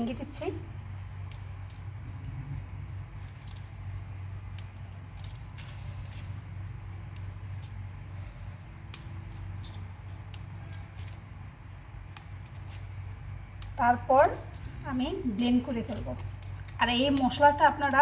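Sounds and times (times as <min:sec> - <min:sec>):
spices rattling on a pan: 0:00.0 - 0:18.0
steady low hum: 0:00.0 - 0:18.0.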